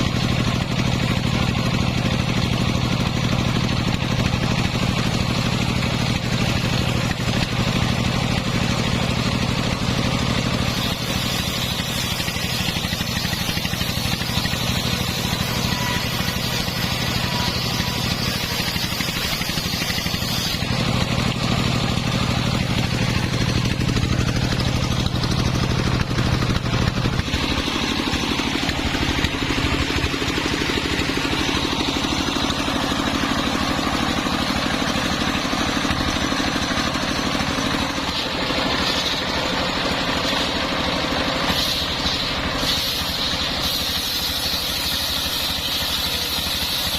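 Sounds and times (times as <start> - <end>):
sawmill engine running: 0.0 - 46.9
saw blade cutting wood: 4.2 - 46.9.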